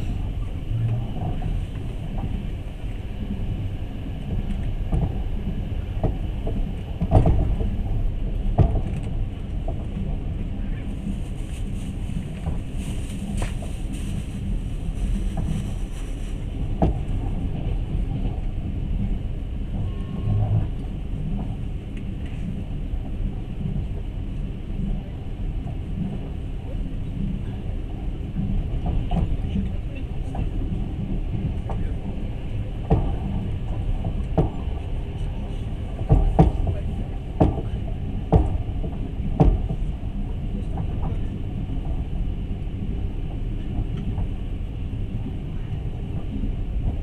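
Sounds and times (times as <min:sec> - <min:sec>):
train rumble on rails: 0:00.0 - 0:47.0.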